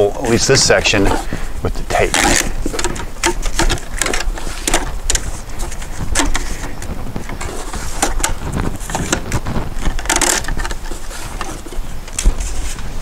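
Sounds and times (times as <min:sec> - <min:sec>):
fish tape scraping conduit: 0:00.0 - 0:12.9.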